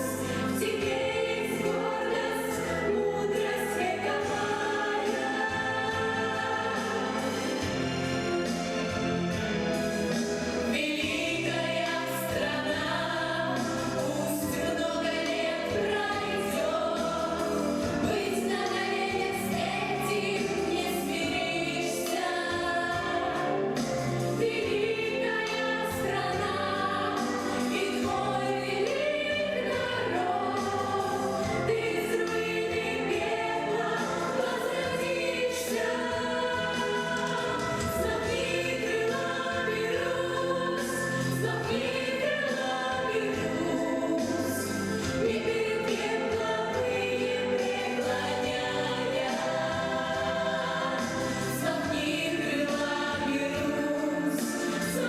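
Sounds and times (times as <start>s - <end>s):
children's choir singing: 0.0s - 55.0s.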